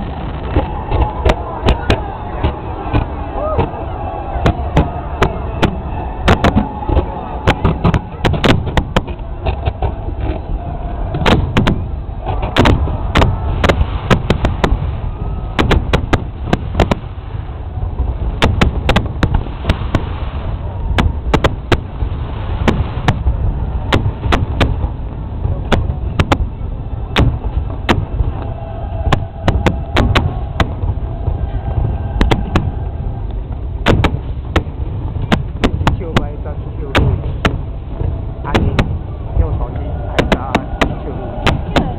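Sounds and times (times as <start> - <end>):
low rumble: 0.0 - 41.9.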